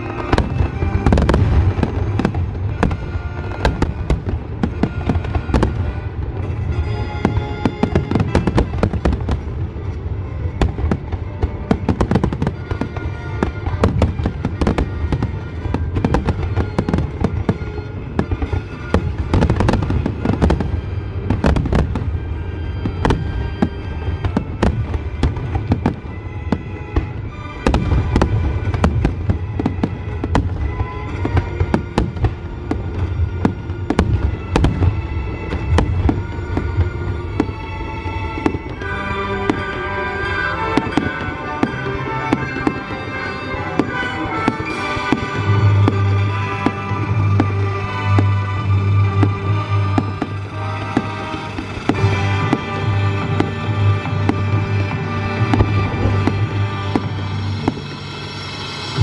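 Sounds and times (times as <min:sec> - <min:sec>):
fireworks bangs and crackles: 0:00.0 - 0:59.0
music playing: 0:00.0 - 0:59.0.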